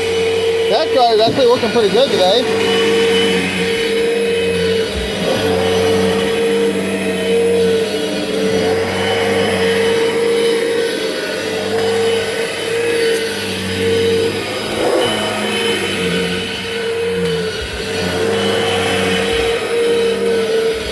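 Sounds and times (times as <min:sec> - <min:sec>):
vacuum cleaner motor hum: 0:00.0 - 0:20.9.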